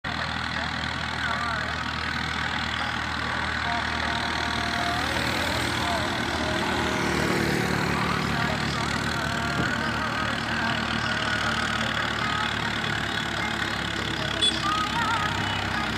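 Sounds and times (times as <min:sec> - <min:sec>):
tractor diesel engine running: 0:00.0 - 0:15.9.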